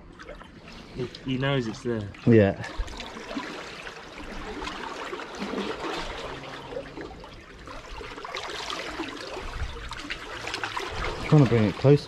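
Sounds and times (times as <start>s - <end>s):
seawater lapping among rocks: 0.0s - 12.0s
small water splashes: 0.0s - 12.0s.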